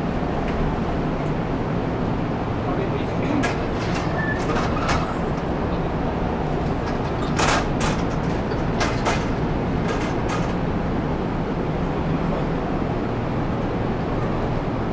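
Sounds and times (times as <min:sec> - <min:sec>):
train equipment humming: 0:00.0 - 0:14.9.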